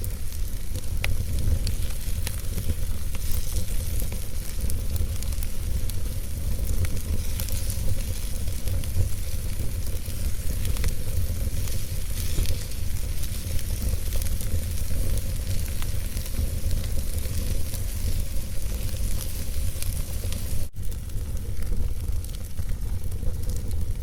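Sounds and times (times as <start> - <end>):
fire crackling and popping: 0.0 - 24.0
fire flames rumbling and hissing: 0.0 - 24.0.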